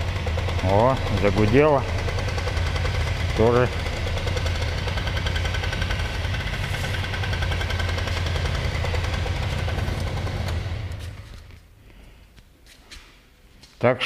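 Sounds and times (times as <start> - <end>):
scooter engine running: 0.0 - 12.2.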